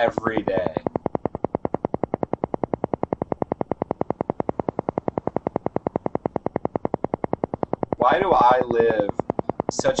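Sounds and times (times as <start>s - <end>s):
pulsing synthesized tone: 0.0s - 10.0s.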